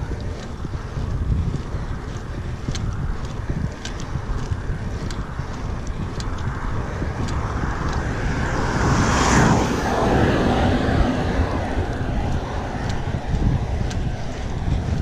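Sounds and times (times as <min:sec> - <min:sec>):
tyres rumbling on asphalt: 0:00.0 - 0:15.0
wind buffeting microphone: 0:00.0 - 0:15.0.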